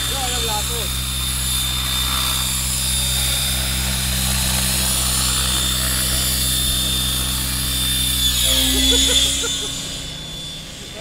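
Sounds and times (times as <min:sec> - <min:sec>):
model helicopter rotor and motor hum: 0:00.0 - 0:11.0
thin high whine: 0:00.0 - 0:11.0.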